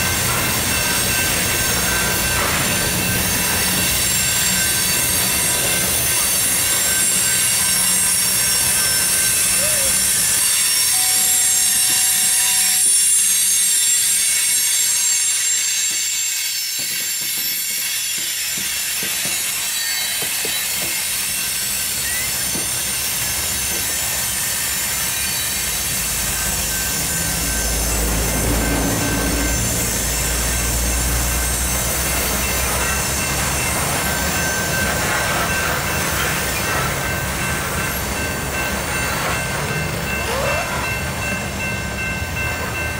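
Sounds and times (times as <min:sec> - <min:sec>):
train rumbling on rails: 0:00.0 - 0:42.9
train wheels squealing: 0:00.0 - 0:42.9.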